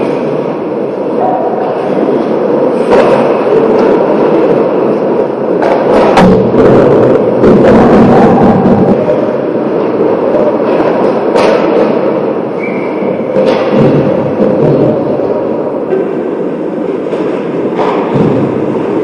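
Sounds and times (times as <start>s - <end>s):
puck and sticks impacts: 0.0s - 19.0s
skates on ice: 0.0s - 19.0s.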